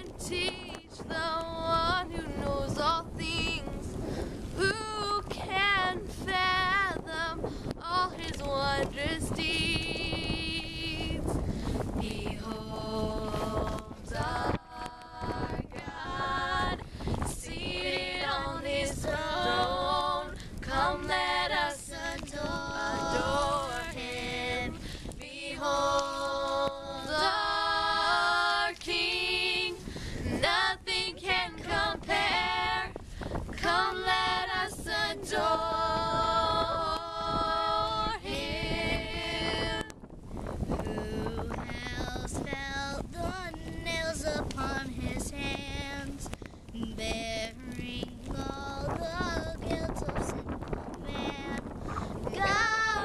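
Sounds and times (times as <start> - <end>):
girls singing in harmony: 0.0 - 3.9, 4.6 - 39.9, 47.6 - 53.0
low wind rumble on microphone: 0.0 - 53.0.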